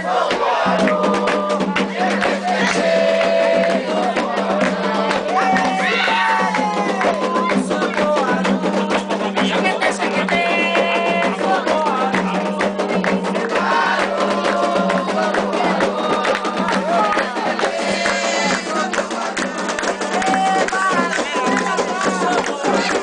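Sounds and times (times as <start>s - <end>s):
hand drums: 0.0s - 23.0s
struck percussion instrument: 0.0s - 23.0s
voices singing: 0.0s - 23.0s.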